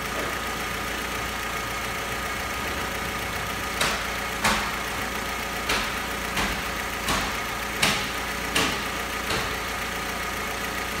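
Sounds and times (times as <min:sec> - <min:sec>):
petrol engine idling: 0:00.0 - 0:11.0.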